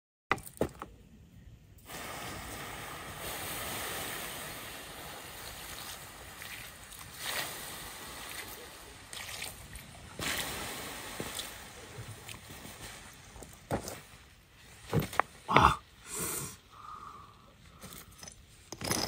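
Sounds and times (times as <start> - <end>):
flowing water: 1.9 - 17.8.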